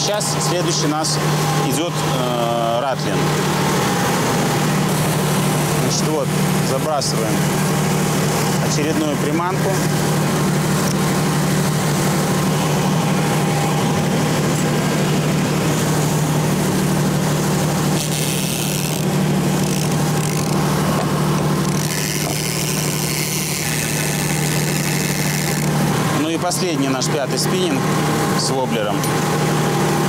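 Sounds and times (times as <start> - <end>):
boat engine low drone: 0.0 - 30.0.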